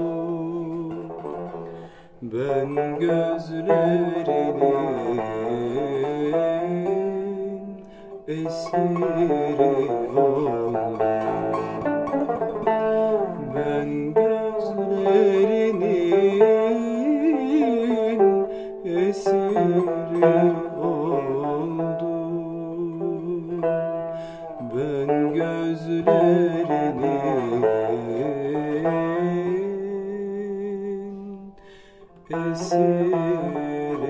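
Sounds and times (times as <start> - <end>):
plucked lute melody: 0.0 - 34.0.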